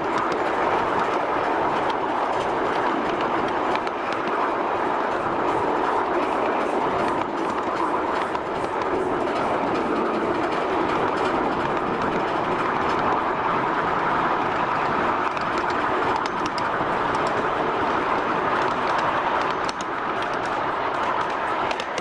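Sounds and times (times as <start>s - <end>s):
miniature steam train running: 0.0s - 22.0s.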